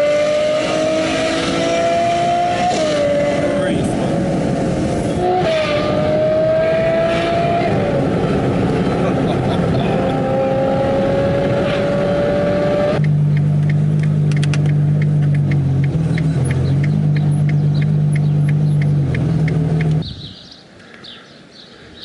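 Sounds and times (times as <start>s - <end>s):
low engine drone: 0.0s - 20.2s
car engine and road noise: 0.0s - 21.0s.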